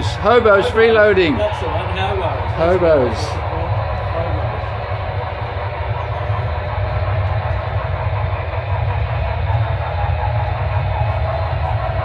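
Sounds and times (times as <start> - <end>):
model steam locomotive rumble: 0.0 - 12.0.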